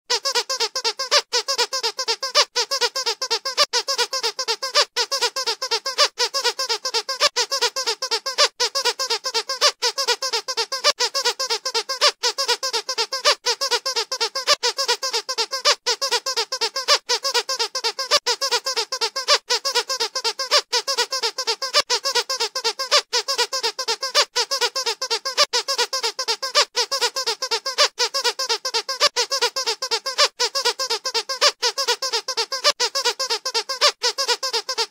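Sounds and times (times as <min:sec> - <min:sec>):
squeaky dog toy squeaking: 0:00.1 - 0:34.9.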